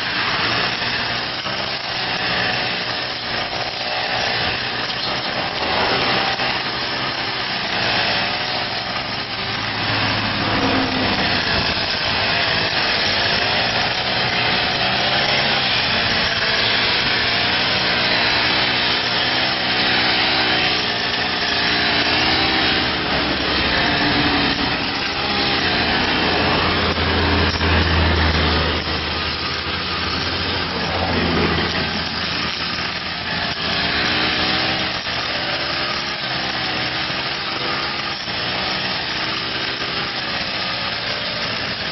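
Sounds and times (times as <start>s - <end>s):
brush cutter cutting grass: 0.0s - 41.9s.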